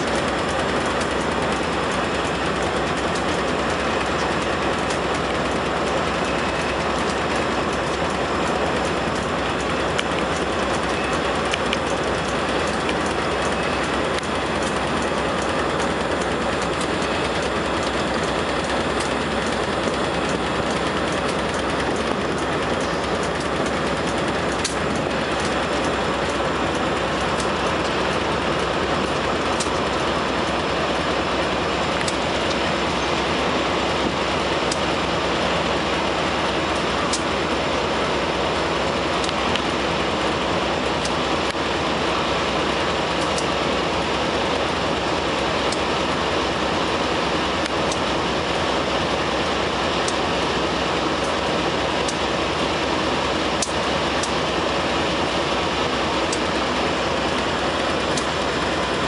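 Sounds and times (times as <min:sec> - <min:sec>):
sharp clicks and clacks: 0:00.0 - 0:37.6, 0:38.6 - 0:41.6, 0:43.0 - 0:44.0, 0:48.8 - 0:52.4, 0:53.5 - 0:59.0
train wheels rumbling on rails: 0:00.0 - 0:59.0.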